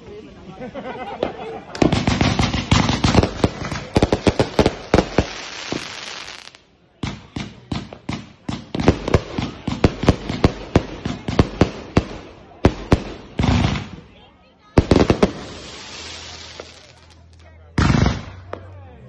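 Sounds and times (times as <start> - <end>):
fireworks bangs: 1.2 - 18.7.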